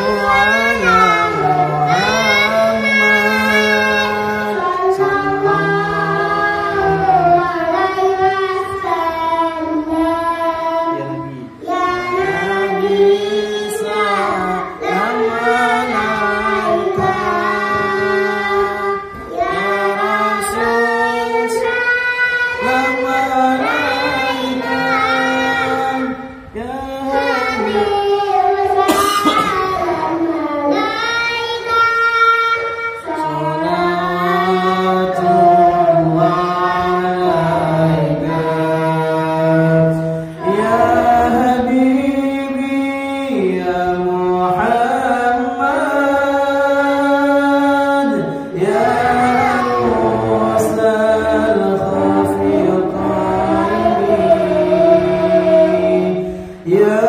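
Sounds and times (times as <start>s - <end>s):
man singing along: 0.0s - 7.9s, 8.8s - 29.8s, 33.0s - 57.0s
boy singing into a microphone: 0.0s - 57.0s.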